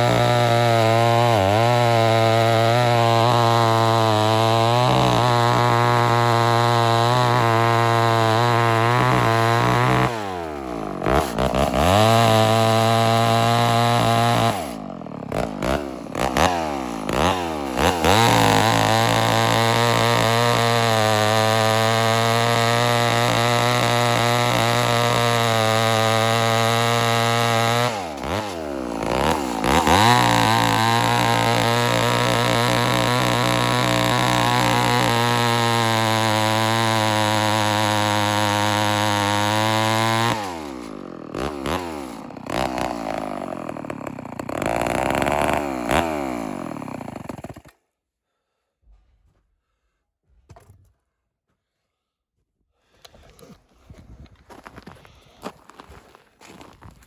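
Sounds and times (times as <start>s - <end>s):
chainsaw cutting wood: 0.0s - 47.8s, 54.5s - 57.0s.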